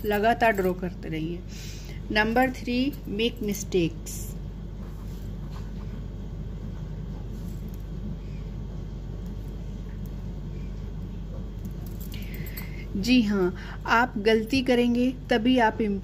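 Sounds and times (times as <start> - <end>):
low background rumble and hum: 0.0 - 16.0.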